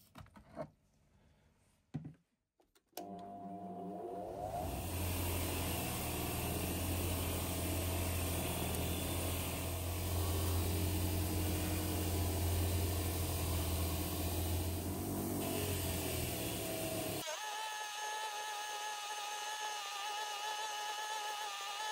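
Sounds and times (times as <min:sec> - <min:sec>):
power tool motor humming: 0:04.2 - 0:21.9.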